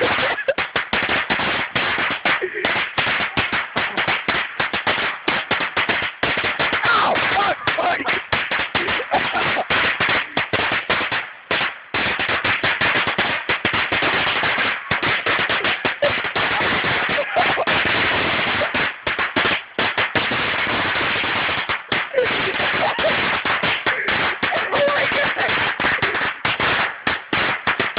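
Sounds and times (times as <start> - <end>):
firecrackers crackling: 0.0 - 27.9.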